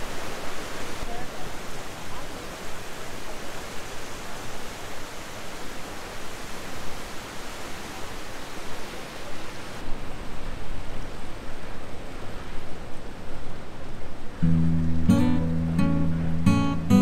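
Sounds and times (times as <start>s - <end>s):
rushing water hiss: 0.0s - 17.0s.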